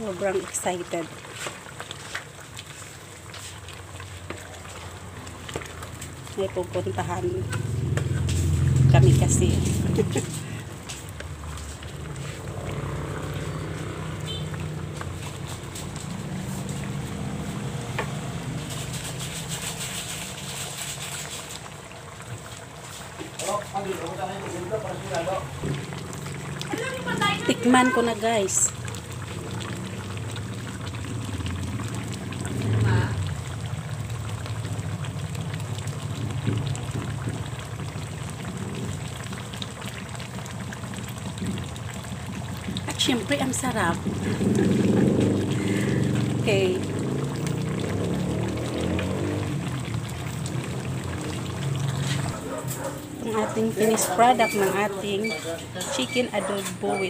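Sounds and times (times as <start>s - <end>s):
sauce simmering and sizzling: 0.0s - 57.0s.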